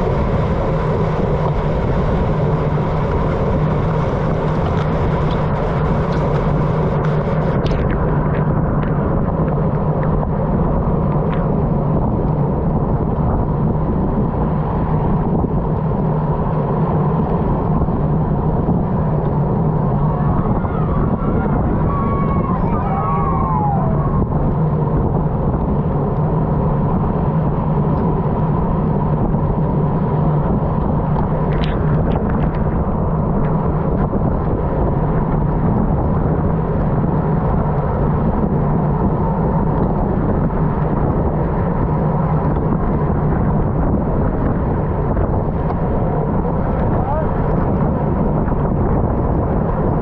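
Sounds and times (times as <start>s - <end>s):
low hum: 0.0s - 50.0s
wind rushing over microphone: 0.0s - 50.0s.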